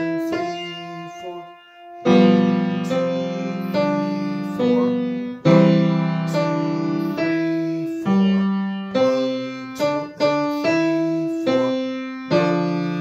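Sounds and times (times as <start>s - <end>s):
grand piano tune: 0.0s - 13.0s.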